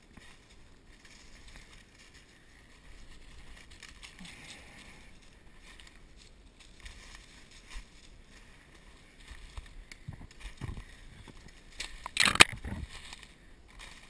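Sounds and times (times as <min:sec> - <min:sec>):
footsteps through dry leaves: 0:00.0 - 0:14.0.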